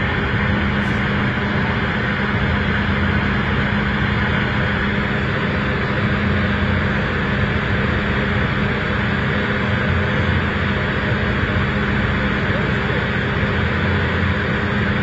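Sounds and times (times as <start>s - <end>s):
fairground machinery hum: 0.0s - 15.0s.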